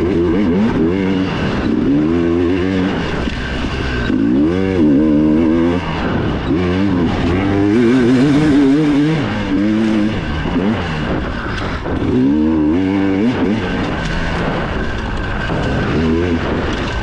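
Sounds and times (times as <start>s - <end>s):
dirt bike engine revving: 0.0s - 17.0s
wind rush: 0.0s - 17.0s.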